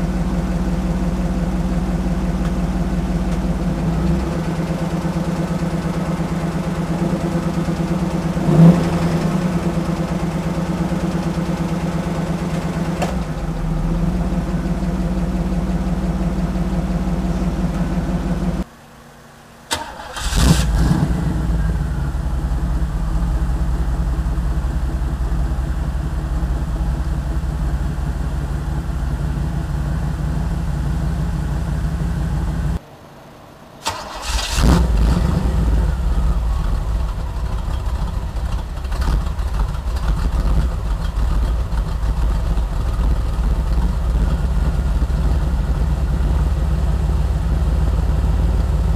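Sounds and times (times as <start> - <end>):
engine revving: 0.0 - 18.6, 19.7 - 32.8, 33.8 - 48.9
car engine exhaust idling: 0.0 - 33.0, 33.8 - 48.9.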